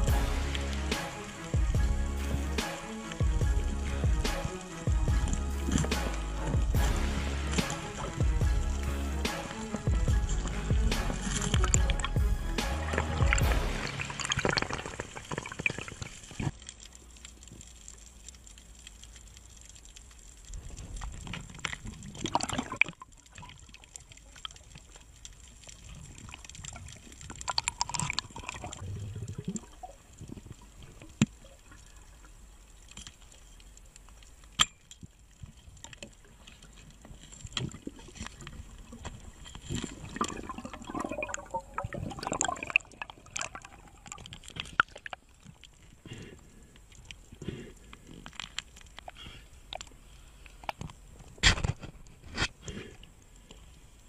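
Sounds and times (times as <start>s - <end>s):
underwater gurgling: 0.0s - 54.0s.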